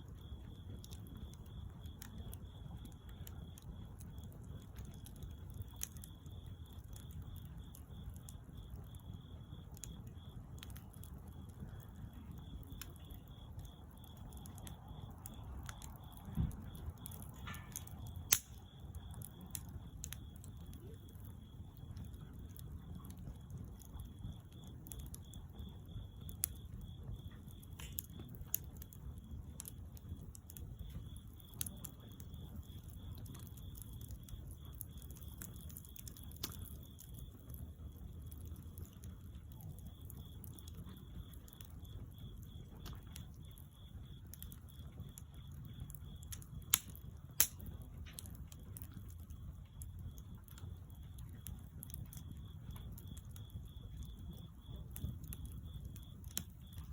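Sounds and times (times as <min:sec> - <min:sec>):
bonfire crackling: 0:00.0 - 0:56.9.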